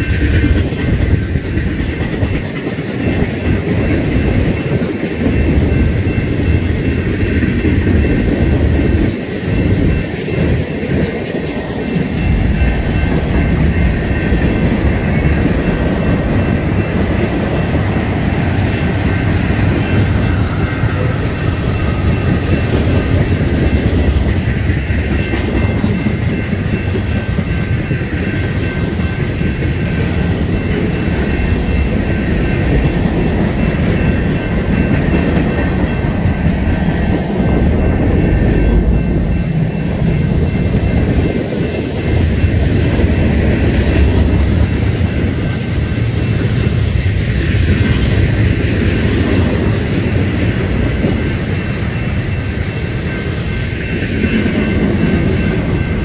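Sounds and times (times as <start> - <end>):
freight train wheels rumbling: 0.0 - 56.0
thin high ringing tone: 2.9 - 56.0.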